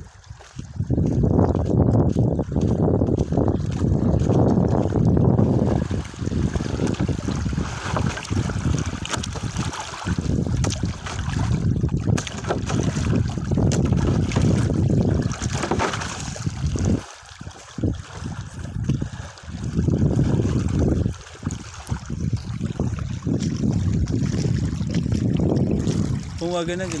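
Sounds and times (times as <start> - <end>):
small waves lapping: 0.0 - 27.0
wind buffeting microphone: 0.0 - 27.0.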